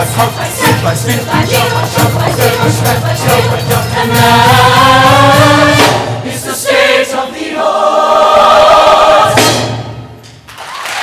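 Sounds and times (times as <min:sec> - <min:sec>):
choir singing: 0:00.0 - 0:09.9.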